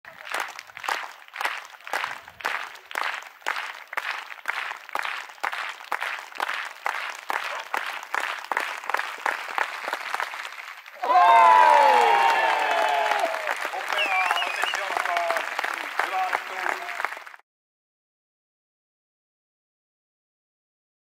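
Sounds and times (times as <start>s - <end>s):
spectators clapping rhythmically: 0.0s - 17.4s.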